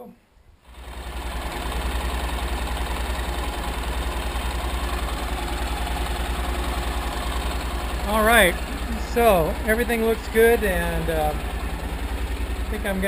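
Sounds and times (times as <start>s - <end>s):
motorcycle engine idling: 0.6s - 13.0s.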